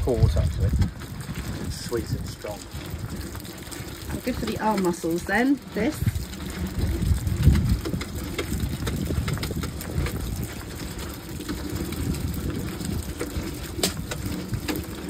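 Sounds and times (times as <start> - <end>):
grape crusher churning rumble: 0.0 - 15.0.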